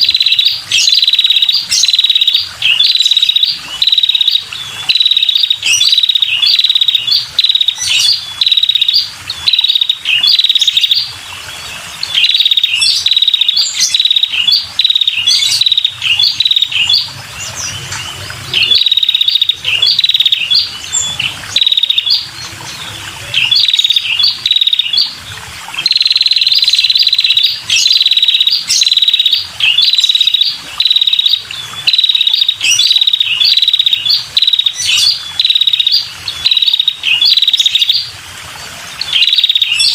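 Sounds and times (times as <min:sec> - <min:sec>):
bird trilling calls: 0:00.0 - 0:11.1, 0:12.0 - 0:25.2, 0:25.8 - 0:38.1, 0:39.0 - 0:39.9.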